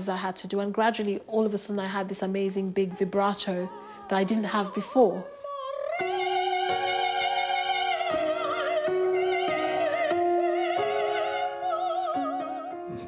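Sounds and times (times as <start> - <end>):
soprano singing operatically: 2.5 - 13.0.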